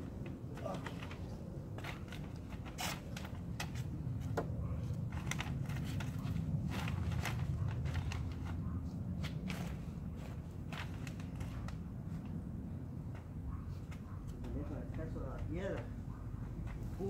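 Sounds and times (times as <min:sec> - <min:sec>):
steady low rumble: 0:00.0 - 0:14.2.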